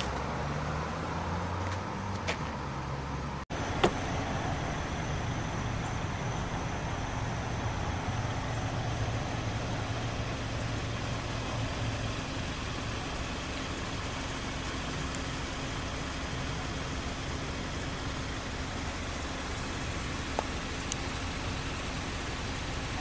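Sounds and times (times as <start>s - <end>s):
outdoor background noise: 0.0s - 23.0s
low motor hum: 3.5s - 23.0s.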